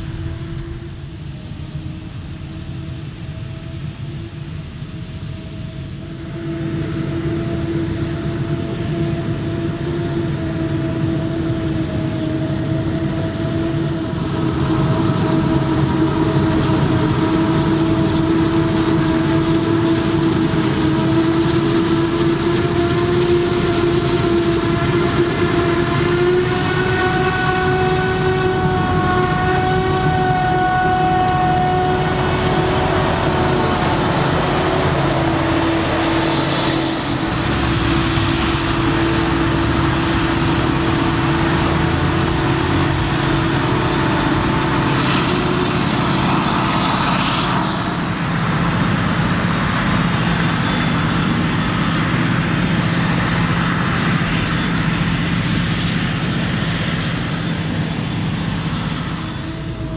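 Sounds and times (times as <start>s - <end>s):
engine rumble: 0.0s - 59.9s
harvester mechanical whine: 0.0s - 59.9s.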